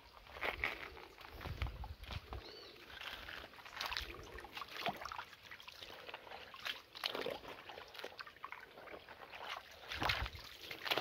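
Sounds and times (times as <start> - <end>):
water trickling over rocks: 0.1 - 11.0.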